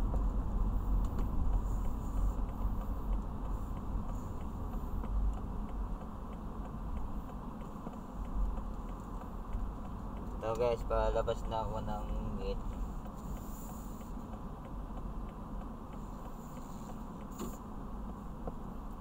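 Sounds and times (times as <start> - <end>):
car cabin road and engine rumble: 0.0 - 19.0
turn-signal indicator ticking: 1.0 - 19.0.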